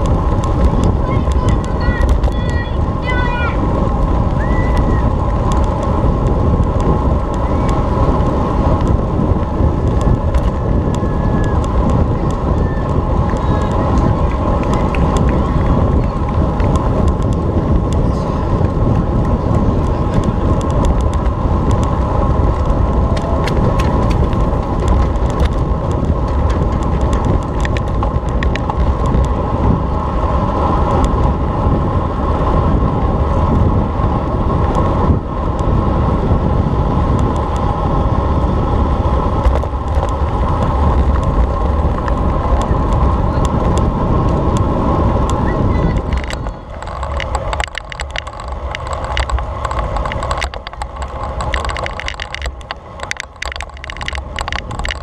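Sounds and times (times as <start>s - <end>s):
small clicks and rattles: 0.0s - 31.3s, 39.3s - 55.0s
bicycle tyres rumbling on road: 0.0s - 55.0s
rushing air: 0.0s - 55.0s.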